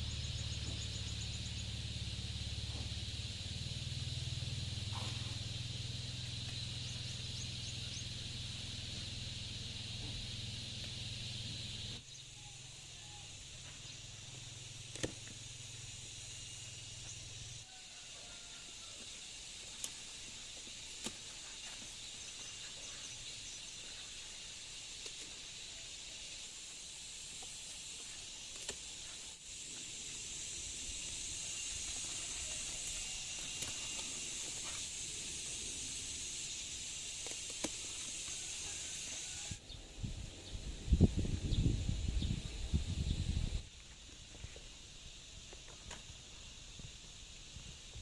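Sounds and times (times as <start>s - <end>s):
insect chorus drone: 0.0s - 48.0s.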